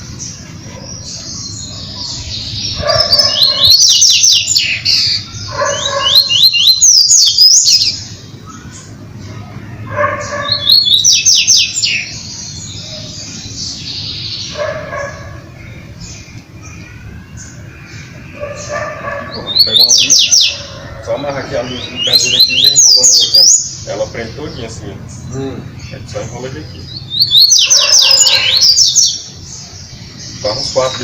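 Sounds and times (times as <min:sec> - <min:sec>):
birds twittering song: 0:00.0 - 0:31.0.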